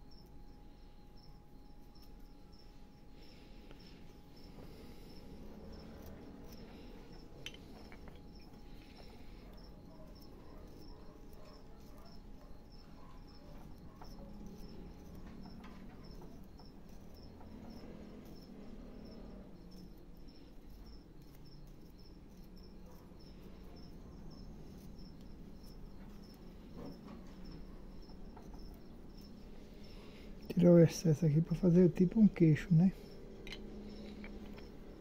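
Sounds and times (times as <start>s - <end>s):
cricket chirping: 0.0s - 35.0s.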